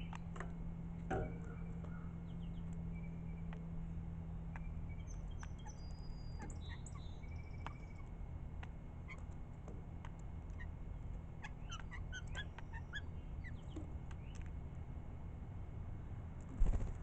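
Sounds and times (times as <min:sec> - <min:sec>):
songbirds chirping: 0:00.0 - 0:16.5
steady low hum: 0:00.0 - 0:17.0.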